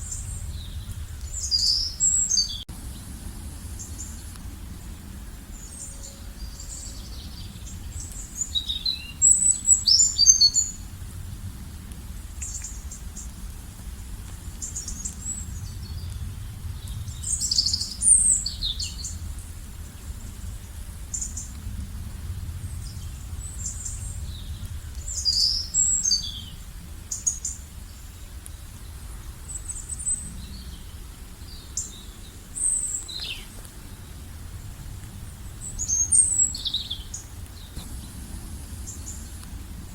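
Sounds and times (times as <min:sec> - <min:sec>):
songbirds chirping and trilling: 0:00.0 - 0:11.0, 0:14.3 - 0:21.8, 0:22.6 - 0:39.9
steady low rumble: 0:00.0 - 0:39.9.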